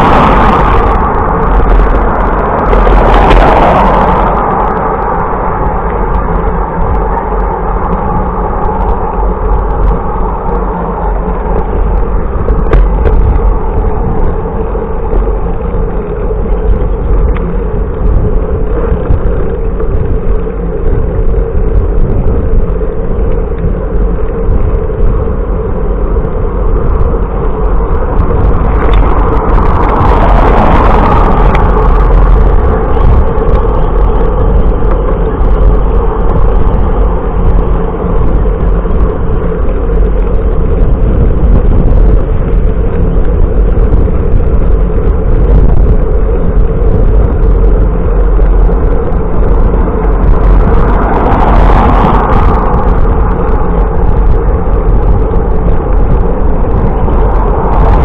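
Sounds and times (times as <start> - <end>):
road rumble: 0.0 - 58.0
wind rush on microphone: 0.0 - 58.0.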